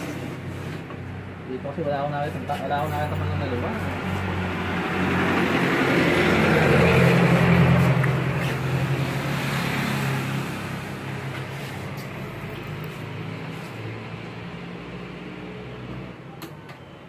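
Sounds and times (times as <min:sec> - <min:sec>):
vehicle engine passing: 0:02.5 - 0:16.2.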